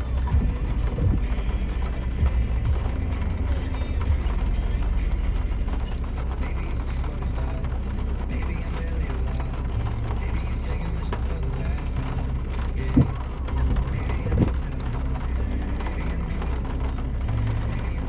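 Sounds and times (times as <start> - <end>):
background music: 0.0 - 18.0
low engine drone: 0.0 - 18.0
vehicle body creaking and rattling: 0.0 - 18.0.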